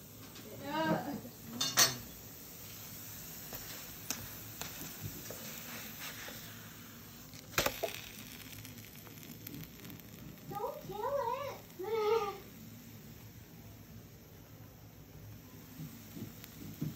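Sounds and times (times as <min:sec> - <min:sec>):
faint steady hiss: 0:00.0 - 0:16.9.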